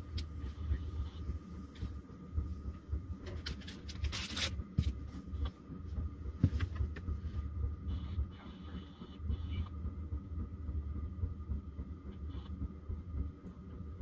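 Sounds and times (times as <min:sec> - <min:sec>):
low steady stove rumble: 0:00.0 - 0:14.0.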